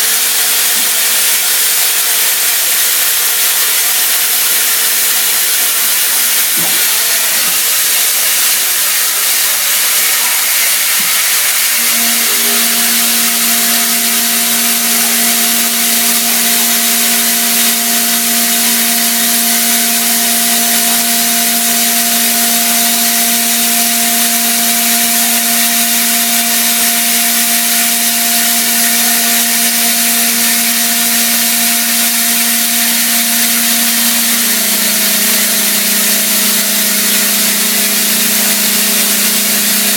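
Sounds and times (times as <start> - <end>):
coolant hissing: 0.0 - 39.9
milling machine spindle hum: 0.1 - 39.9.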